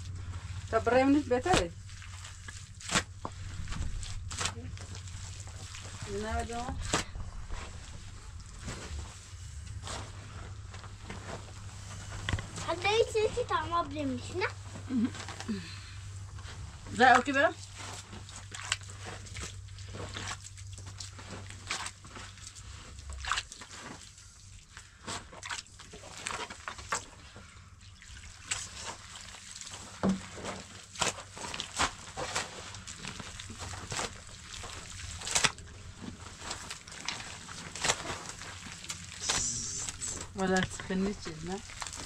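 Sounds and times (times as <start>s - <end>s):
water sloshing and splashing: 0.0s - 14.8s, 16.1s - 42.0s
low steady hum: 0.0s - 42.0s.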